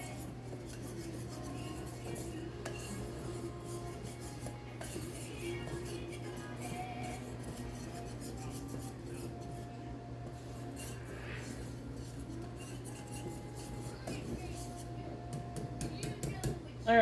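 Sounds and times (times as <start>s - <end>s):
whisk scraping and clicking in pot: 0.0s - 16.6s.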